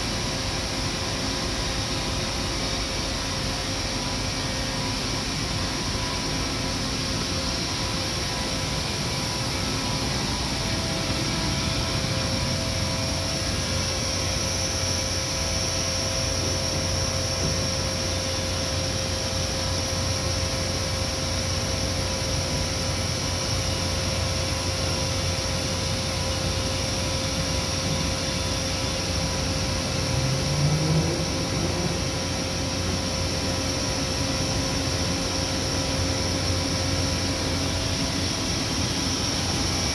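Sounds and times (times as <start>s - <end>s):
machine hum with whining tones: 0.0s - 39.9s.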